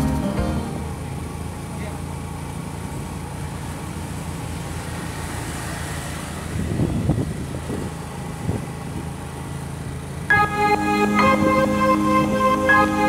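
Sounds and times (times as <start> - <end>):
vehicle engine running: 0.0 - 11.6
road noise: 0.0 - 13.0.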